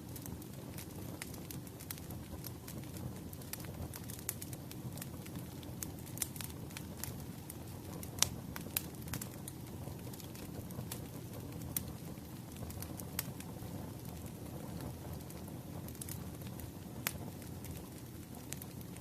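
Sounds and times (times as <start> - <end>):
fire burning: 0.0 - 19.0
wood crackling and popping: 0.0 - 19.0.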